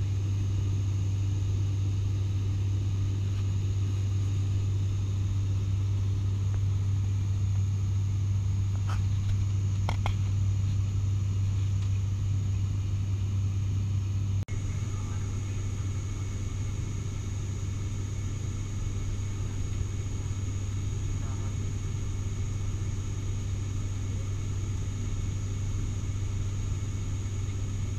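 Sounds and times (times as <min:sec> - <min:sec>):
propeller plane cabin drone: 0:00.0 - 0:27.9.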